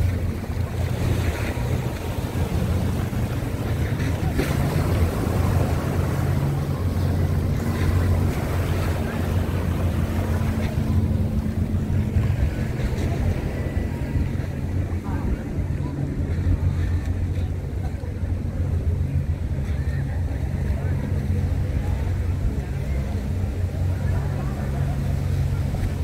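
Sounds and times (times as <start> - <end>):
wind buffeting microphone: 0.0 - 21.0
ferry engine humming: 0.0 - 26.0.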